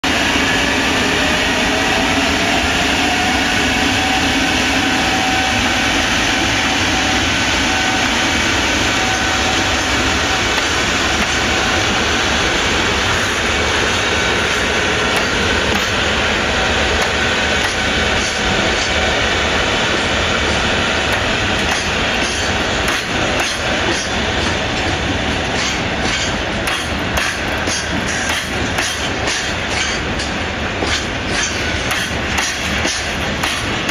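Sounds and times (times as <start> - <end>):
freight train rumble: 0.0 - 33.9.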